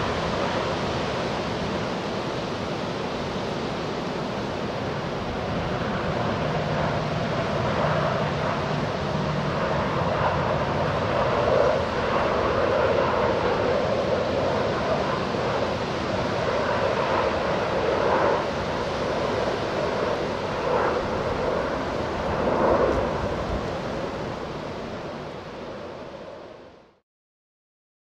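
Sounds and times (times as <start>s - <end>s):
jet engines roaring: 0.0s - 26.9s.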